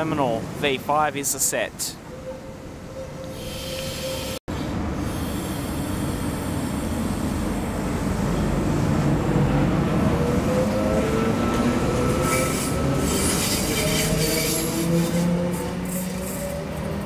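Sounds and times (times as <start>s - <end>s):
stationary train humming: 0.0s - 17.0s
train rumble and wheel noise: 0.0s - 17.0s.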